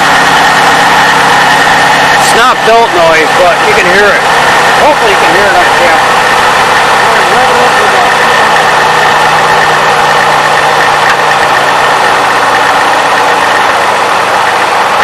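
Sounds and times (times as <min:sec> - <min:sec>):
car engine idling: 0:00.0 - 0:15.0
high-pitched whine: 0:00.0 - 0:15.0.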